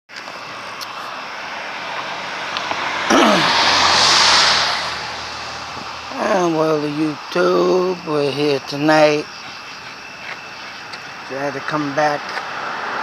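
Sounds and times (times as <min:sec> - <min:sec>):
car passing by: 0:00.3 - 0:09.2, 0:09.9 - 0:13.0.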